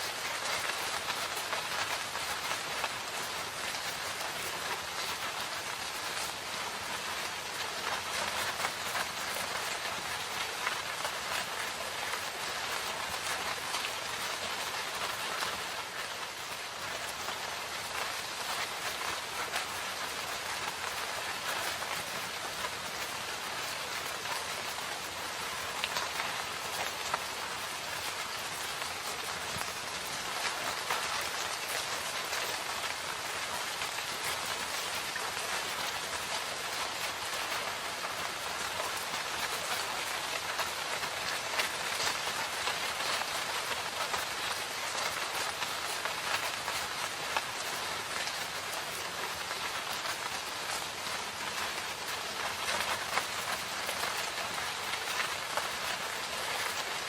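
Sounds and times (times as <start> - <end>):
rain falling in a forest: 0.0 - 57.0
raindrops ticking on surfaces: 0.0 - 57.0.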